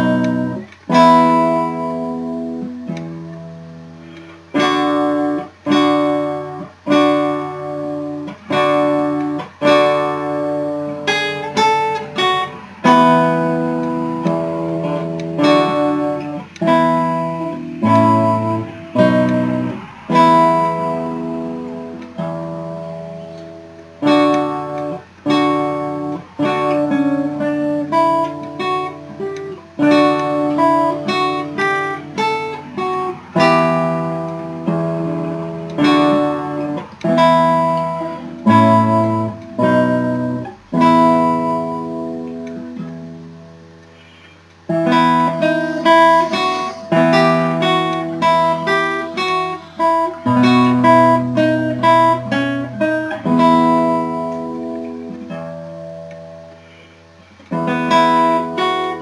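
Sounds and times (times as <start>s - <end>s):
classical guitar playing: 0.0s - 59.0s.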